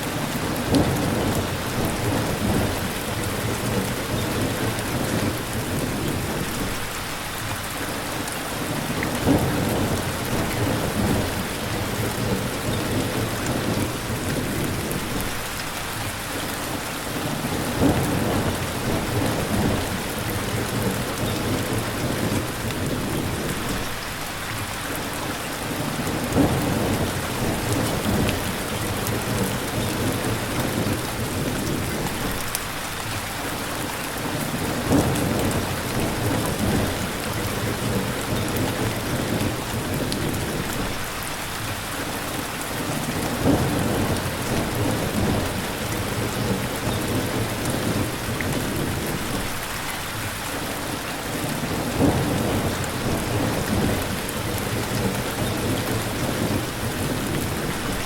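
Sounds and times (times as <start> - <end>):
steady rain falling: 0.0 - 58.0
low thunder rumbling: 0.4 - 7.0, 9.0 - 15.4, 17.2 - 24.0, 26.0 - 32.5, 34.5 - 41.0, 42.8 - 49.6, 51.2 - 58.0.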